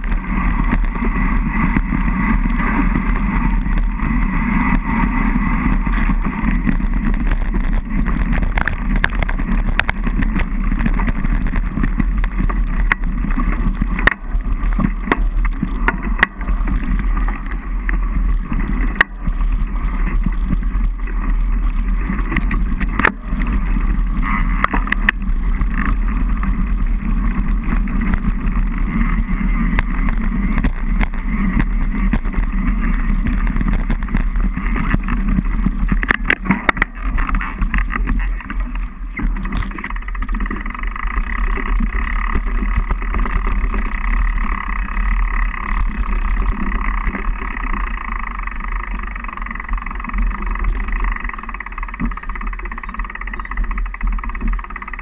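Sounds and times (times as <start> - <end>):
bike knocks and rattles: 0.0 - 55.0
bike tyres rolling on dirt: 0.0 - 55.0.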